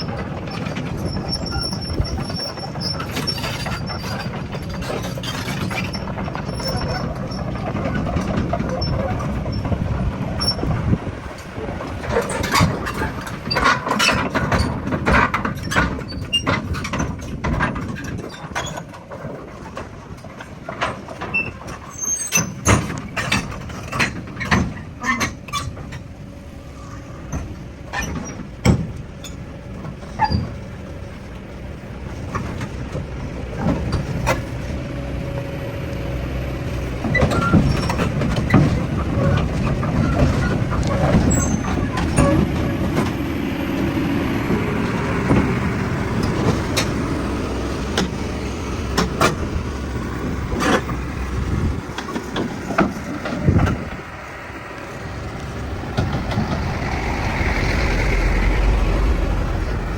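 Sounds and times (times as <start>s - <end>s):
heavy machinery engine rumble: 0.0s - 59.9s.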